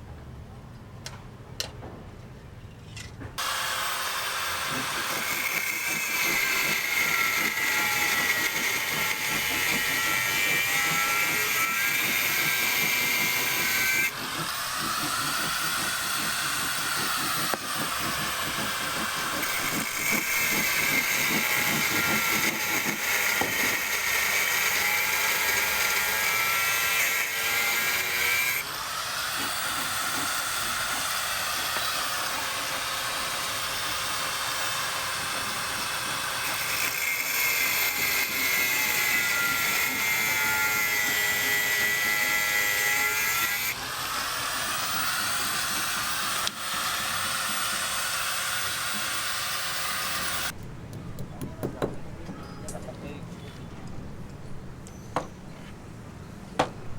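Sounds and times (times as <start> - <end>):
power tool whining under load: 3.4 - 50.6.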